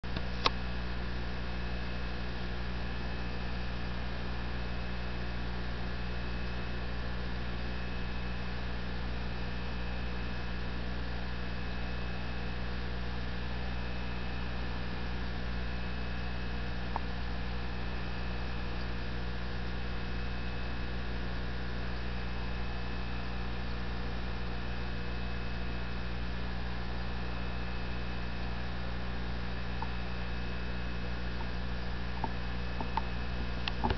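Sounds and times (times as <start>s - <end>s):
electrical mains hum: 0.0s - 33.9s.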